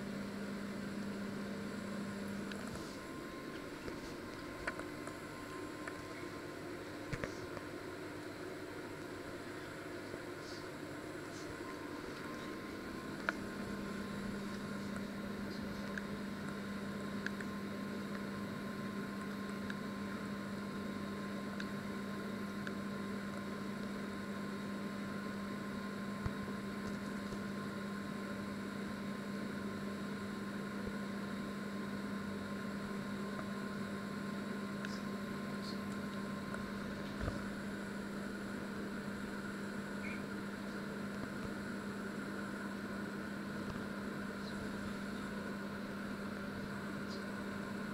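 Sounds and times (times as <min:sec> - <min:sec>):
microwave oven humming: 0:00.0 - 0:47.9.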